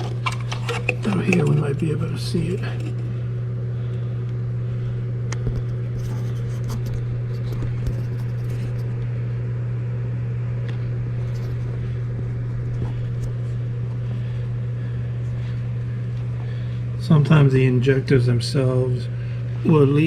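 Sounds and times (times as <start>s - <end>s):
smoke machine humming: 0.0s - 20.0s.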